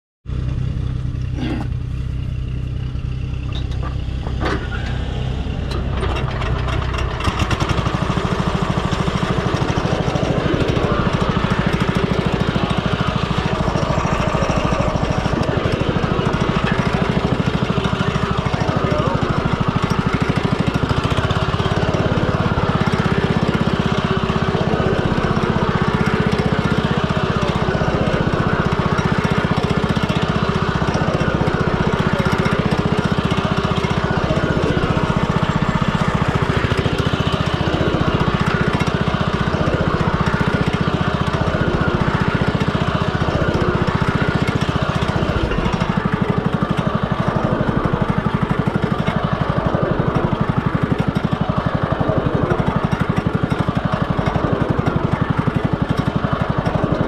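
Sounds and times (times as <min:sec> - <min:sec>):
garden tractor engine: 0:00.2 - 0:57.0.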